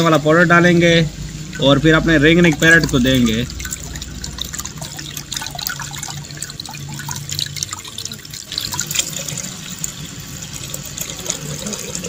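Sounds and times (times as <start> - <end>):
tap water running into bowl: 0.0 - 12.0.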